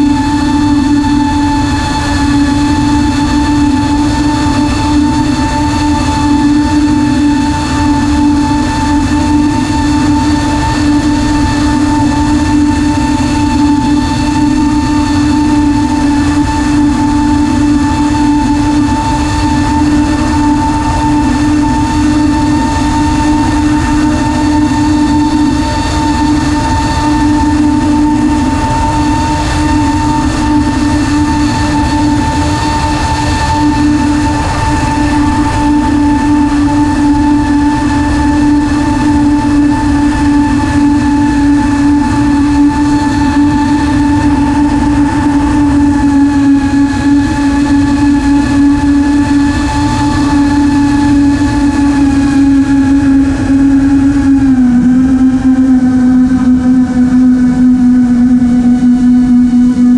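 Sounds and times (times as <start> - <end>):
drone motors whining: 0.0 - 59.9
wind rushing over microphone: 0.0 - 59.9.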